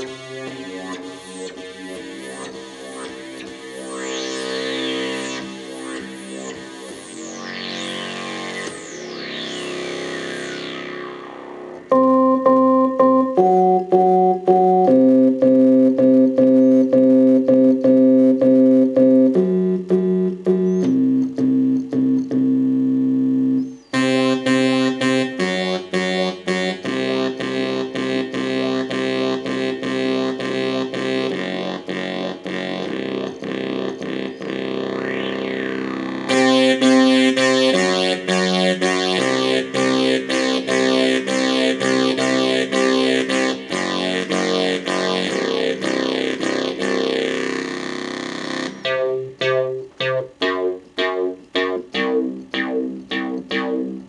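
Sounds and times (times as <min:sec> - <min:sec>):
synthesizer bass: 0:00.0 - 0:54.0.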